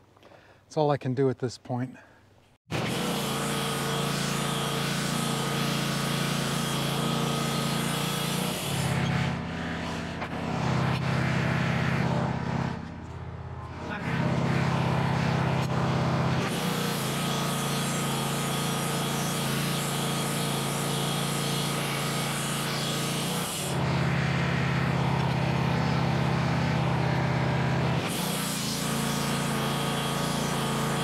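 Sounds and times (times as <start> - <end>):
sawmill engine running: 2.7 - 31.0.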